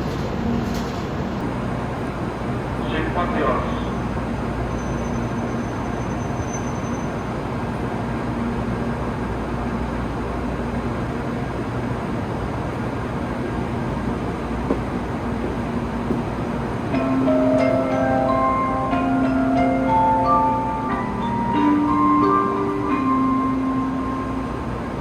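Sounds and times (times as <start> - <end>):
train rumble and hum: 0.0 - 25.0.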